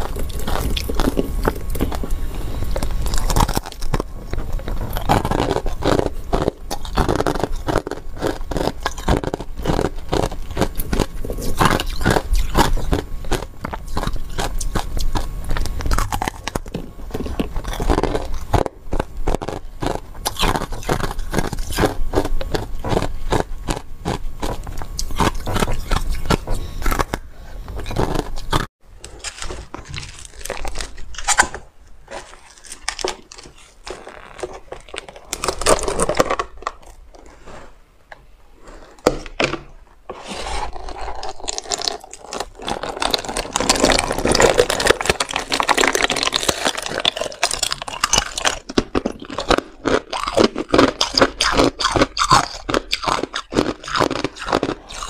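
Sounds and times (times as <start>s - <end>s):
ice crackling and scraping: 0.0s - 31.5s, 32.1s - 37.8s, 40.1s - 55.0s
ice crunching in mouth: 0.0s - 37.3s, 40.3s - 55.0s.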